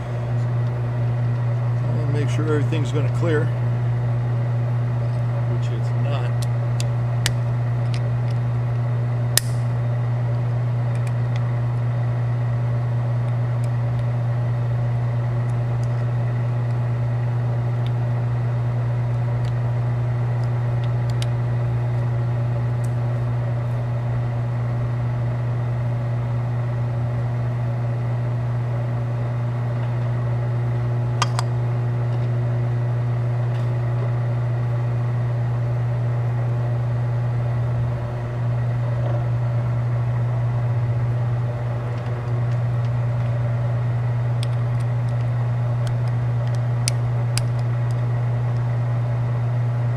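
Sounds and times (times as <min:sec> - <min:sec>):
shop machinery hum: 0:00.0 - 0:49.9.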